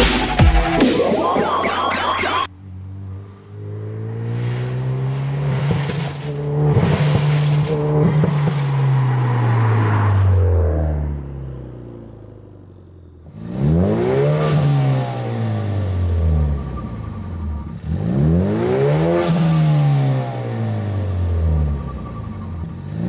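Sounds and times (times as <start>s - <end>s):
car engine revving in blips: 0.0s - 23.0s
car accelerating past: 2.5s - 23.0s.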